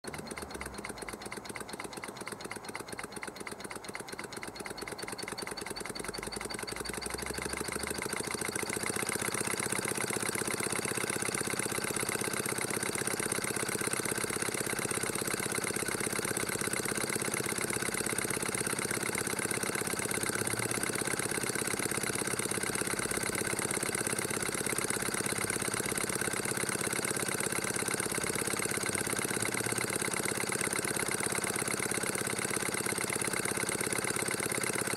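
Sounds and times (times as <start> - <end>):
model steam engine chuffing: 0.0 - 34.9.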